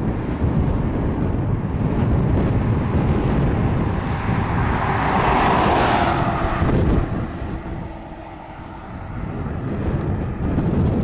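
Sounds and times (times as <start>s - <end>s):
fighter jet flying past: 1.2s - 11.0s.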